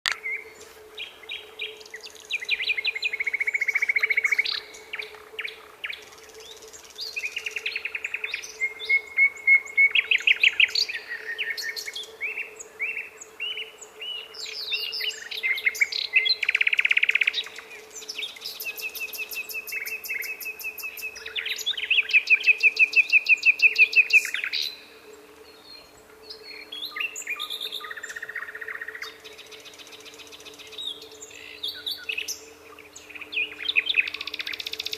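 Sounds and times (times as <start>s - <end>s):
nightingale singing: 0.1s - 34.9s.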